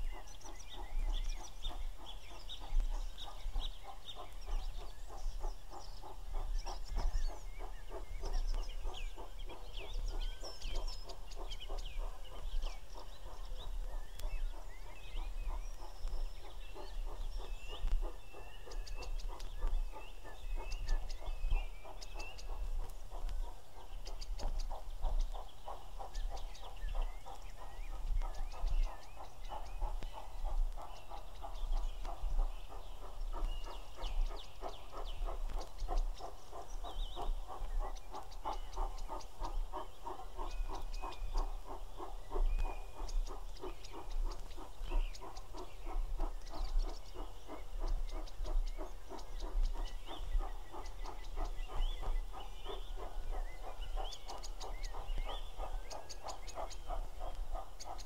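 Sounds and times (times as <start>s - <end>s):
birds chirping and singing: 0.0s - 58.0s
distant steam locomotive chuffing: 0.0s - 58.0s.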